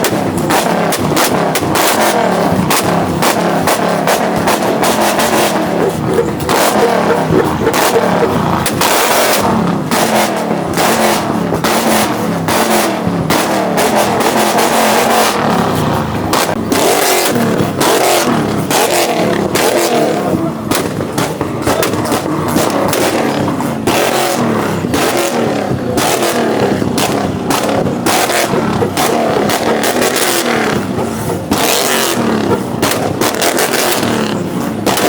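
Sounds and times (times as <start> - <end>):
car engines revving: 0.0 - 35.0
exhaust cracks and pops: 0.0 - 35.0.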